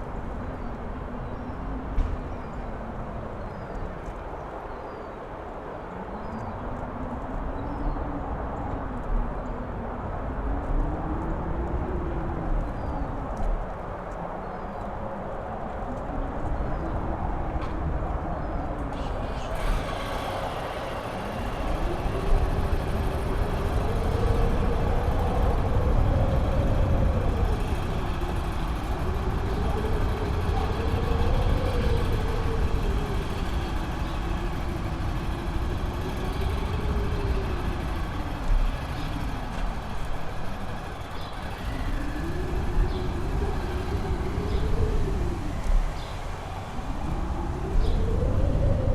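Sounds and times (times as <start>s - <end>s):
gusts buffeting microphone: 0.0s - 48.9s
strong wind howling: 0.0s - 48.9s.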